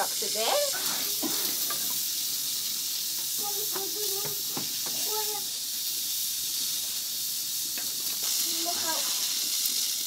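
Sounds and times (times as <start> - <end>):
steam hissing from valve: 0.0 - 10.0
wood fire crackling: 0.0 - 10.0.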